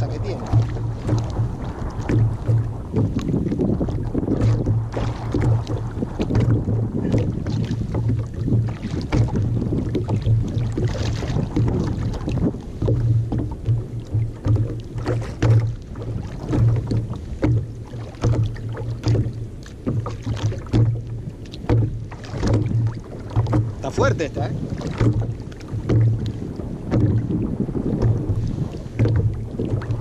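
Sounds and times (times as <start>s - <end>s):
pulsing low hum: 0.0s - 30.0s
water lapping against kayak hull: 0.0s - 30.0s.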